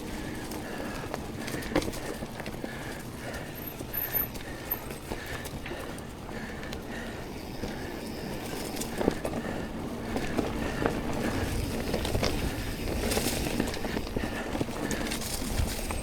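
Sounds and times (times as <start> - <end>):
mountain bike tyres on dirt: 0.0 - 16.0.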